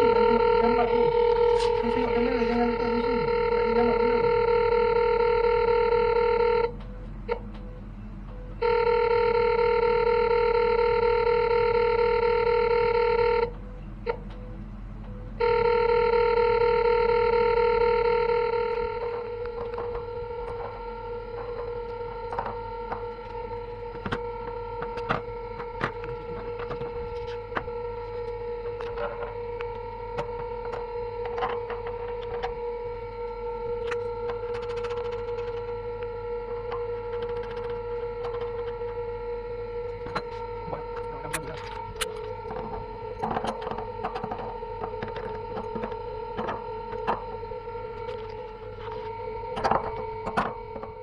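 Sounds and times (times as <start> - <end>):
steady electronic tone: 0.0 - 51.0.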